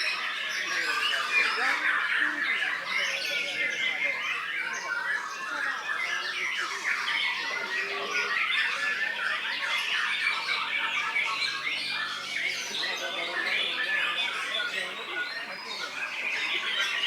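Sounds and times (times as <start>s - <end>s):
bird singing rapid chirps: 0.0s - 17.0s.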